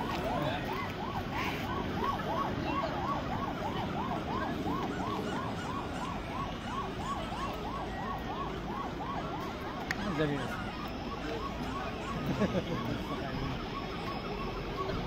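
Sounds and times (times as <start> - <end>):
crowd hubbub: 0.0 - 15.0
electronic siren warbling: 0.0 - 15.0.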